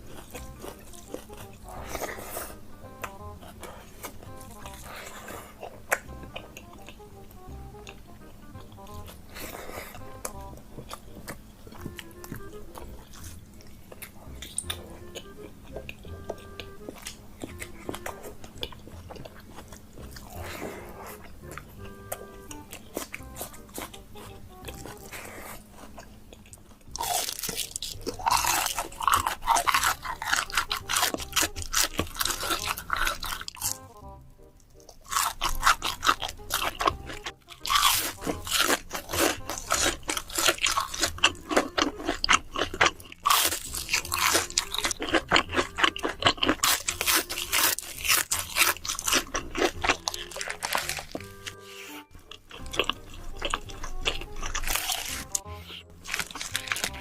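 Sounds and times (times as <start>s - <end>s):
background music: 0.0s - 57.0s
crunching and chewing food: 0.0s - 57.0s.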